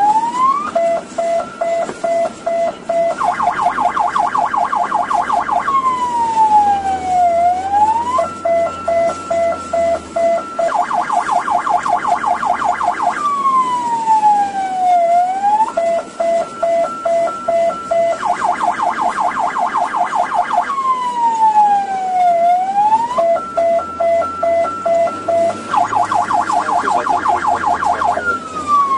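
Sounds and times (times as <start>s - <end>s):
ambulance siren: 0.0s - 28.9s.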